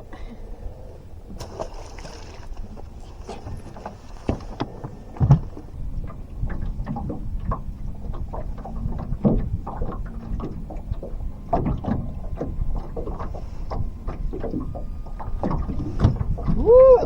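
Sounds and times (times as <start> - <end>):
low steady hum: 0.0 - 17.0
knocks and clatter on boat: 1.0 - 17.0.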